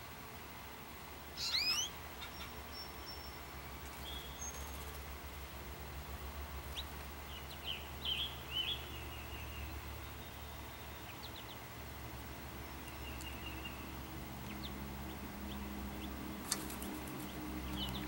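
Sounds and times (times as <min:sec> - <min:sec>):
birds chirping: 0:00.0 - 0:18.0
low outdoor hum: 0:00.0 - 0:18.0.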